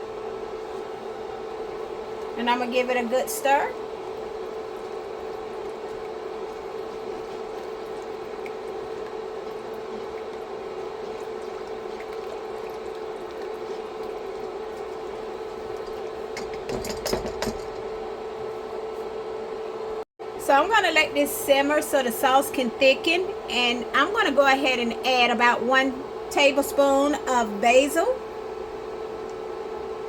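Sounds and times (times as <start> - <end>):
appliance hum: 0.0 - 30.0.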